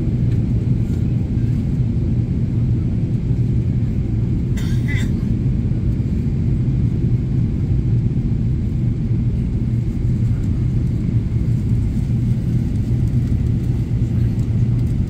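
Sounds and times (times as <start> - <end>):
airplane cabin rumble: 0.0 - 15.0.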